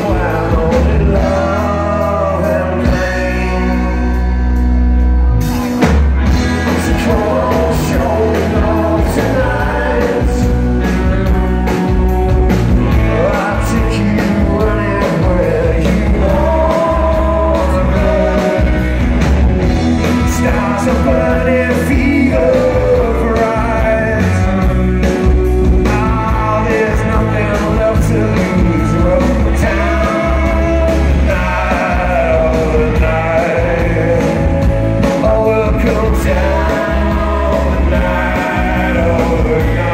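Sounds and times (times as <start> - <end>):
person singing: 0.0 - 4.4, 5.5 - 12.0, 12.8 - 19.0, 19.9 - 39.9
bass guitar: 0.0 - 39.9
drums: 0.0 - 39.9
electric guitars: 0.0 - 39.9.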